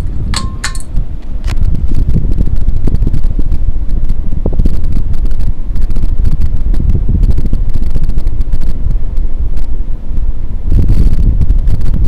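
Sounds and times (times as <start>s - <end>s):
ceiling fan rumbling: 0.0s - 12.0s.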